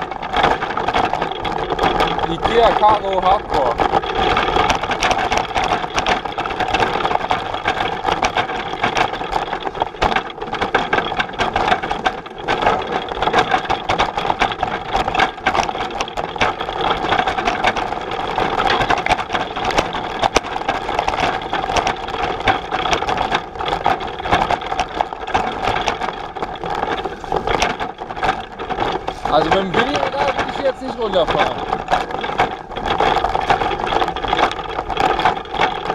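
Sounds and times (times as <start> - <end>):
cargo bike rattling over bumps: 0.0 - 35.9.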